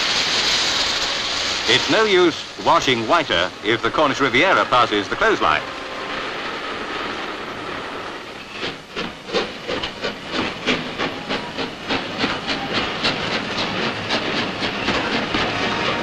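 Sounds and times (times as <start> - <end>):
steam hissing: 0.0 - 16.0
steam locomotive chuffing: 0.0 - 16.0.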